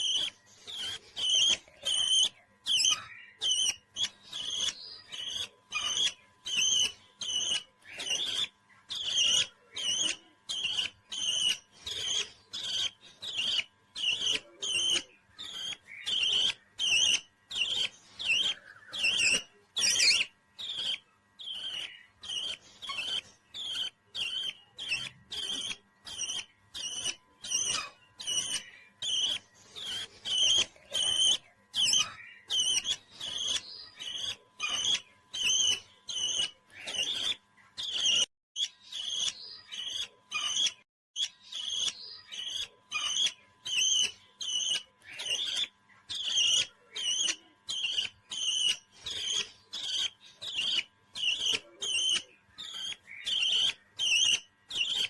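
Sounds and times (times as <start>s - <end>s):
parrot chirping: 0.0s - 55.0s.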